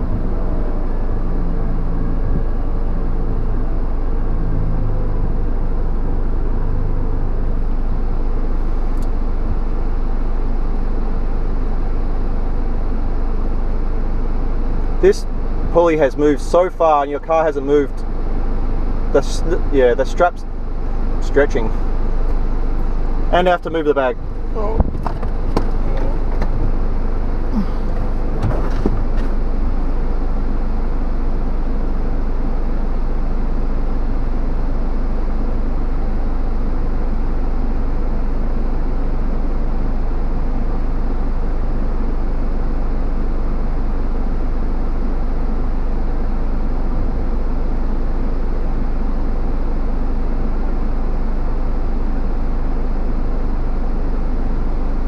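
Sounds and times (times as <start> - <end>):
engine idling from inside cab: 0.0 - 55.0.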